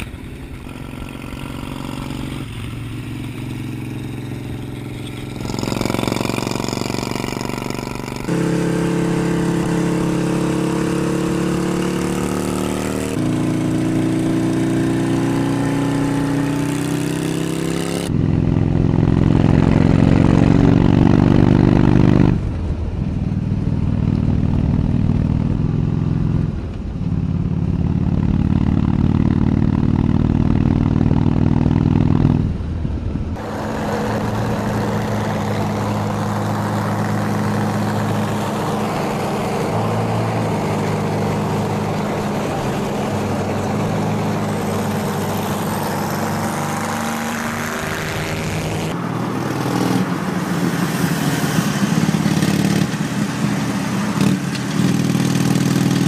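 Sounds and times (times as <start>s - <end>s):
motorcycles running at speed: 0.0s - 56.0s.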